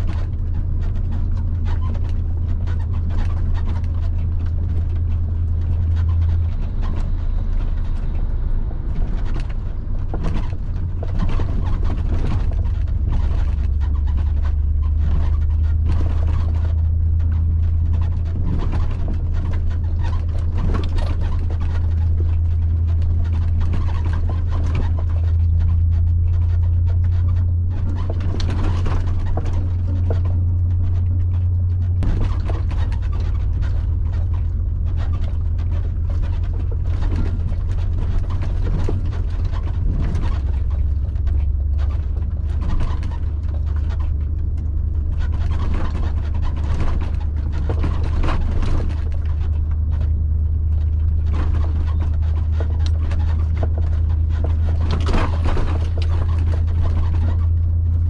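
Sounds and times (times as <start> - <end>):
knocks and rattles in cab: 0.0 - 58.0
road noise: 0.0 - 58.0
truck cab low drone: 0.0 - 58.0.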